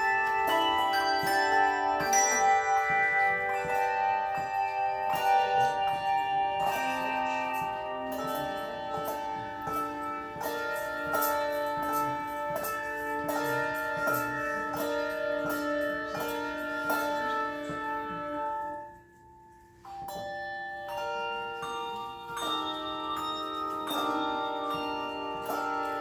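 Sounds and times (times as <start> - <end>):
handbell choir playing: 0.0 - 26.0.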